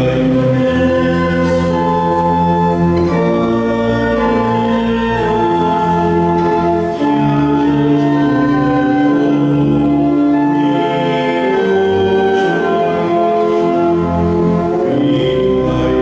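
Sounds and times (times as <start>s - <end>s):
organ playing slow chords: 0.0s - 16.0s.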